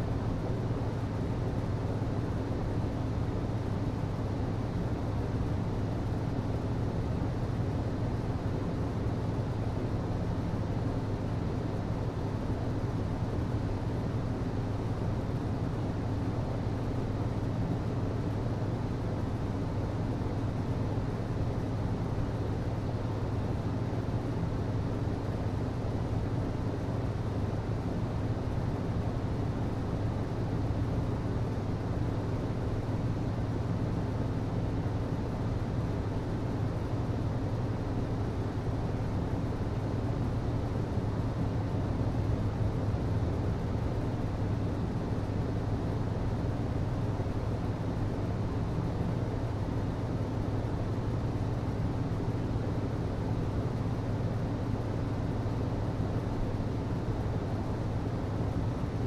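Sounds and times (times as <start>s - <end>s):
hvac system humming: 0.0s - 59.0s.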